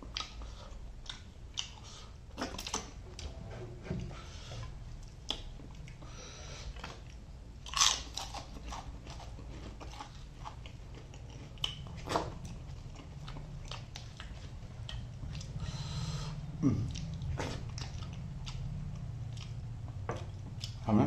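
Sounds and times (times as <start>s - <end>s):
person chewing crunchy food: 0.0s - 3.3s, 4.6s - 20.9s.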